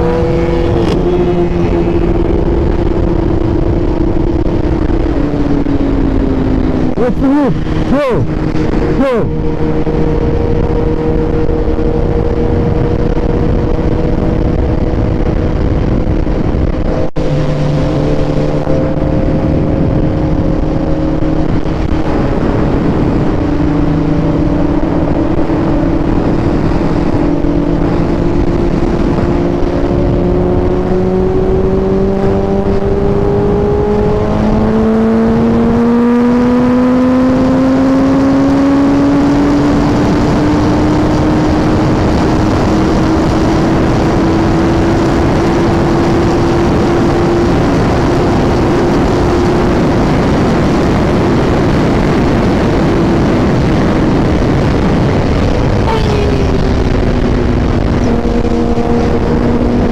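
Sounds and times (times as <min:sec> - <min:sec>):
motorcycle engine cruising: 0:00.0 - 0:59.9
wind rushing: 0:00.0 - 0:59.9.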